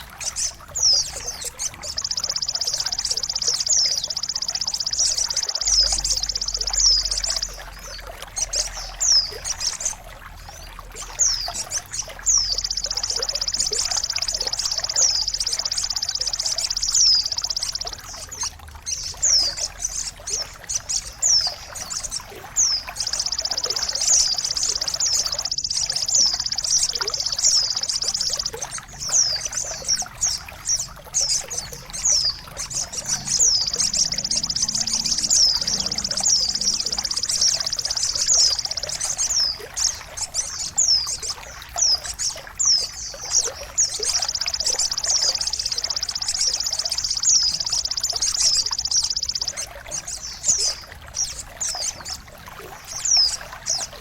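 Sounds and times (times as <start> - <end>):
small songbird chirping: 0.0 - 54.0
trickling water: 0.0 - 54.0.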